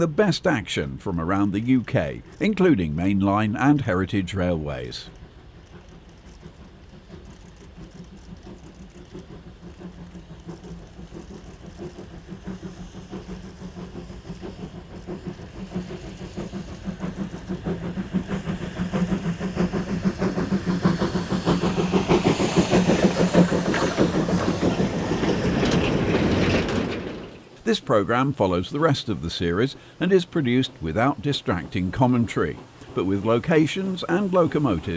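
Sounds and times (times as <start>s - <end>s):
steam locomotive exhaust chuffs: 0.0s - 34.9s.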